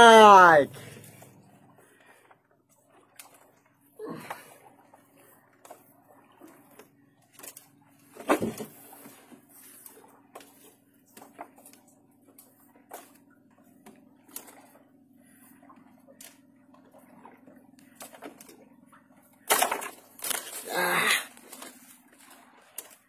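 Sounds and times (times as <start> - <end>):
steady low hum: 0.2 - 22.8.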